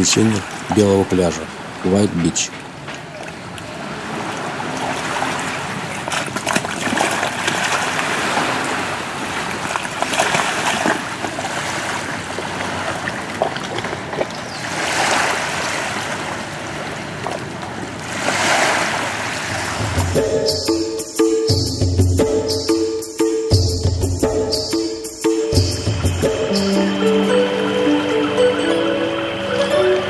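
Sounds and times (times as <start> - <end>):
rushing water: 0.0 - 21.4, 24.8 - 30.0.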